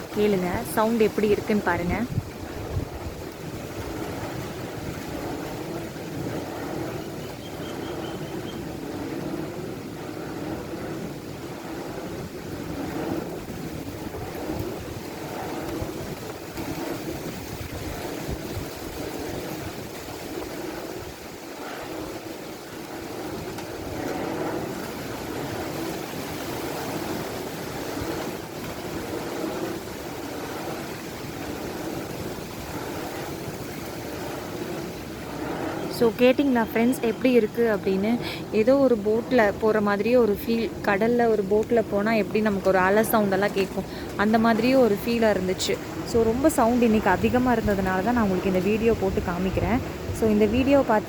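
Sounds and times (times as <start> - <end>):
windmill rushing in wind: 0.0 - 51.0.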